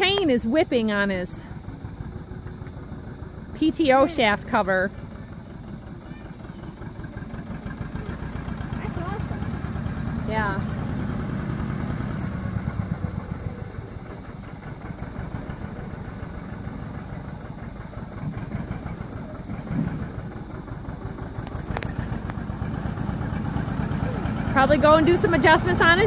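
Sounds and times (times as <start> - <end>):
tractor engine running under load: 0.0 - 26.0.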